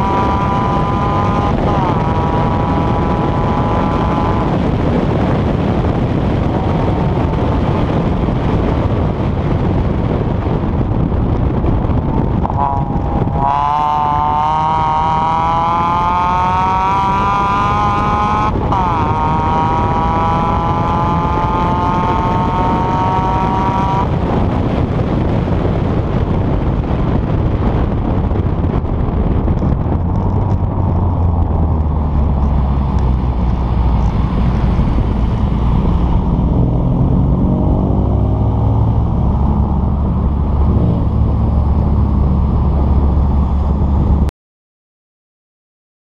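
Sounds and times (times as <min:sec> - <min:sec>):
car engine running: 0:00.0 - 0:44.3
road noise: 0:00.0 - 0:44.3
wind noise: 0:00.0 - 0:44.3.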